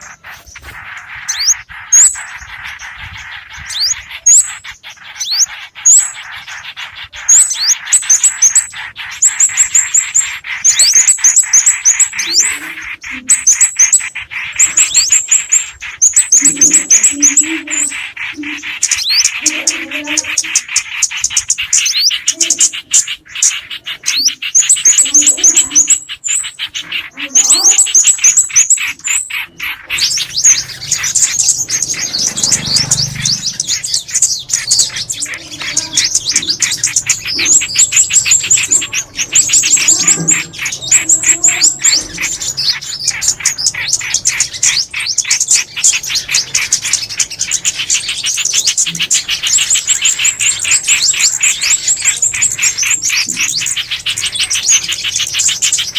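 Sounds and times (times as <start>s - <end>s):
fast high bird trills: 0.0s - 55.9s
songbirds chirping: 0.0s - 55.9s.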